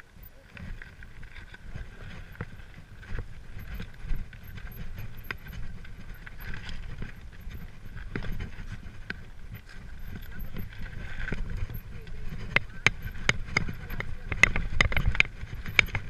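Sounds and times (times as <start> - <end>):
bike rattling over stones: 0.0 - 16.0
wind and trail rumble: 0.0 - 16.0.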